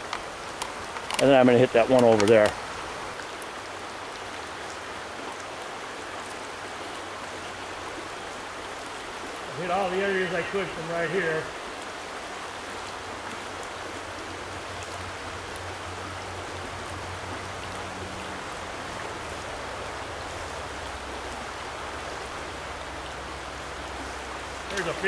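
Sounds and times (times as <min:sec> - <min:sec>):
stream water running over rocks: 0:00.0 - 0:25.0.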